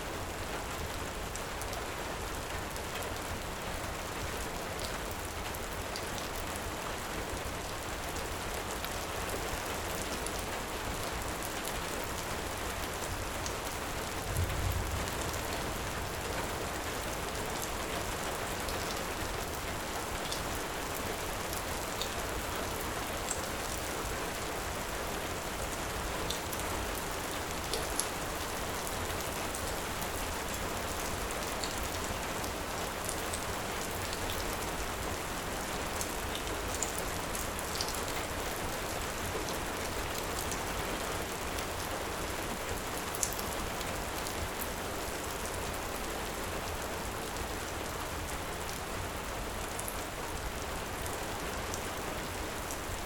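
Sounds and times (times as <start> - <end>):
heavy rain falling: 0.1 - 53.0.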